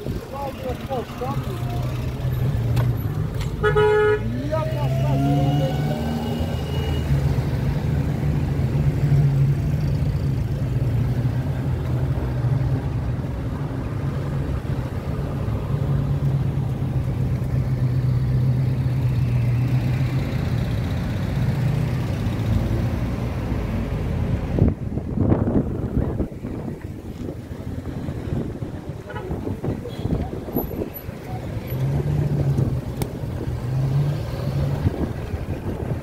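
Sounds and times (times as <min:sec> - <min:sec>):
road traffic: 0:00.0 - 0:36.0.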